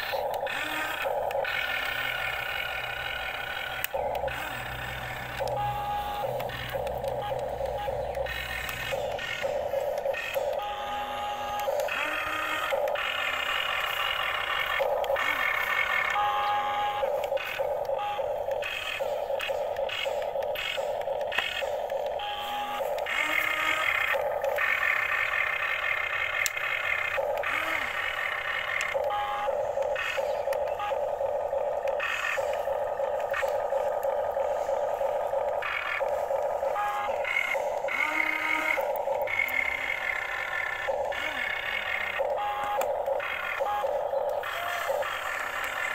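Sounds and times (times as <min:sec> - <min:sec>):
small electric motors whirring: 0:00.0 - 0:45.9.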